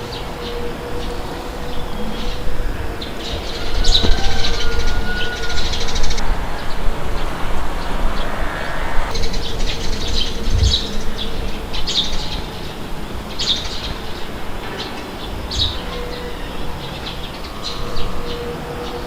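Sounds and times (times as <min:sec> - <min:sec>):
low rumble of wind: 0:00.0 - 0:19.0.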